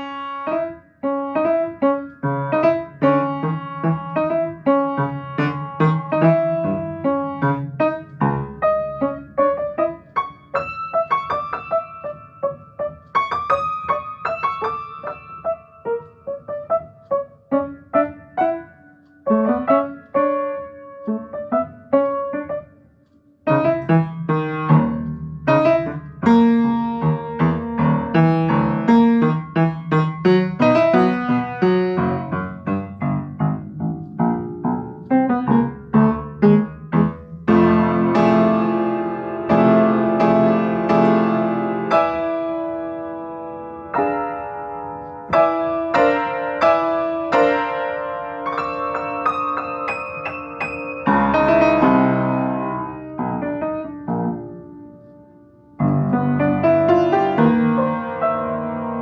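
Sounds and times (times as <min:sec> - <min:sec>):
solo piano improvisation: 0:00.0 - 0:59.0.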